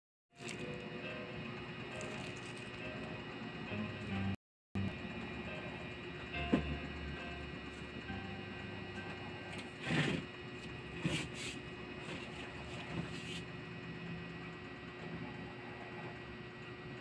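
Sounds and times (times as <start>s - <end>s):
steady electrical hum: 0.4s - 17.0s.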